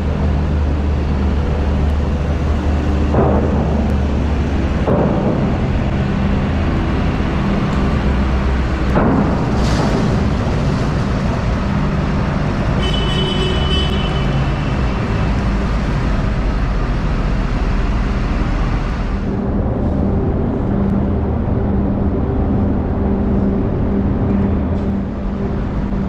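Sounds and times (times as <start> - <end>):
diesel engine rumble: 0.0 - 26.0.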